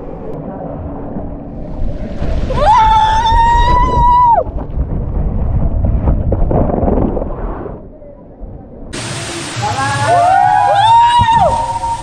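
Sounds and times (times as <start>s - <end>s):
rushing rumble: 0.0s - 12.0s.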